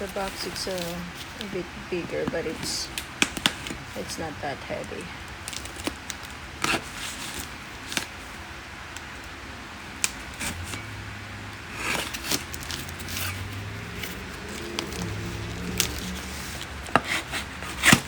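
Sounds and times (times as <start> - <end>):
packing tape scraping and rustling: 0.0 - 9.2, 9.9 - 11.0, 11.7 - 18.0.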